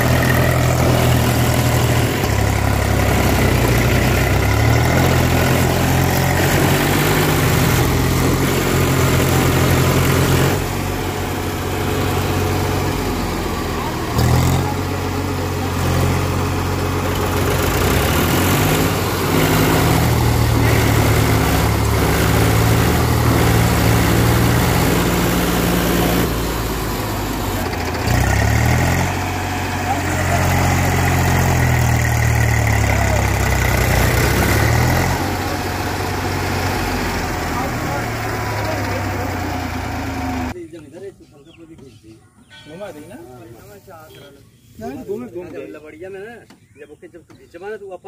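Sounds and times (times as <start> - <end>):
tractor engines revving under load: 0.0 - 40.6.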